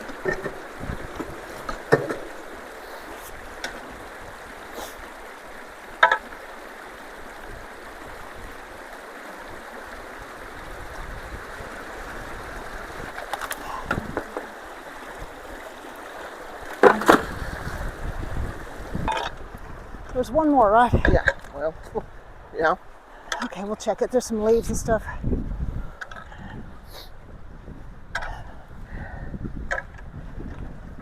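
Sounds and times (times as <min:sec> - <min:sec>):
water rushing through culvert: 0:00.0 - 0:26.3.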